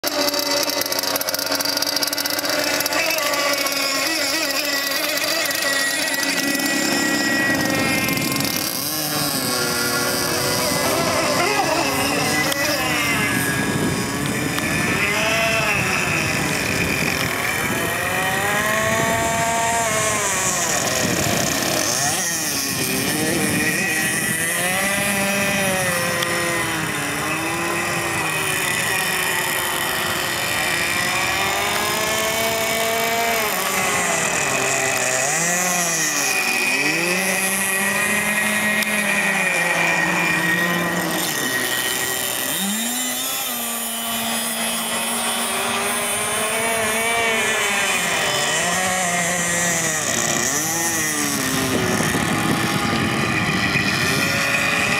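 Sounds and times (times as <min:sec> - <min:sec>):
model speedboat engine revving: 0:00.0 - 0:54.9.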